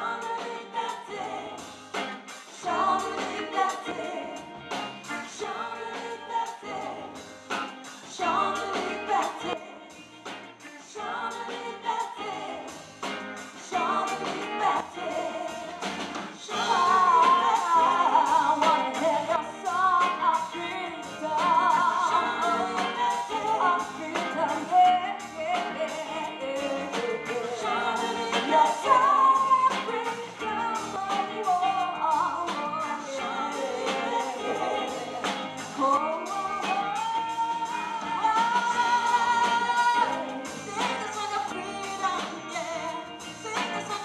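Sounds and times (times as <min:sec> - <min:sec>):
women singing in harmony: 0:00.0 - 0:01.9, 0:02.5 - 0:07.3, 0:08.0 - 0:12.8, 0:13.4 - 0:44.0
bass guitar: 0:00.0 - 0:44.0
drum kit: 0:00.0 - 0:44.0
electric guitar: 0:00.0 - 0:44.0.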